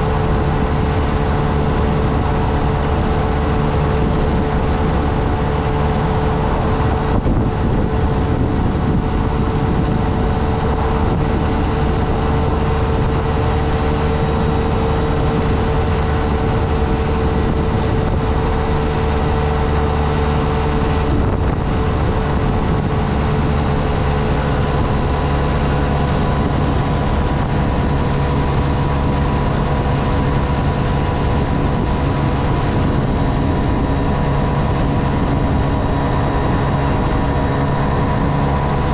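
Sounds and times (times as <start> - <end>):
motorcycle engine running: 0.0 - 38.9
rush of noise: 0.0 - 38.9.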